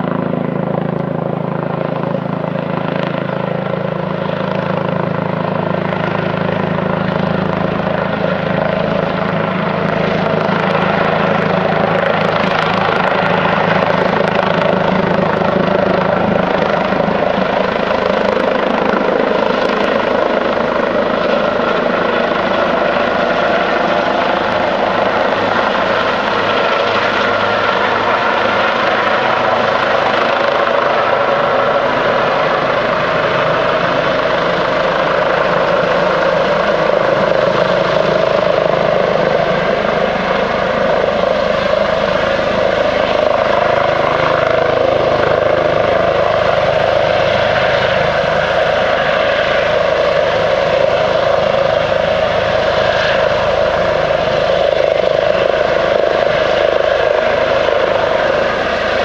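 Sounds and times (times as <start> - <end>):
helicopter hovering drone: 0.0 - 59.0.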